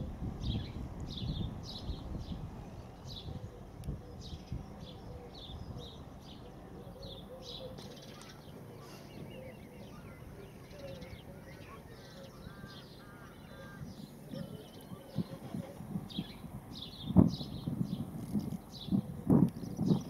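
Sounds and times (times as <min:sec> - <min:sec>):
wild birds calling: 0:01.3 - 0:20.0.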